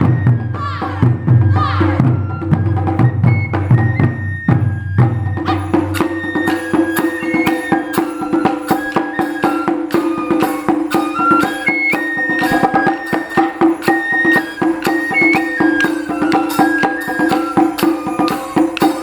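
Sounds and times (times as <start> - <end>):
high flute melody: 0.0 - 19.0.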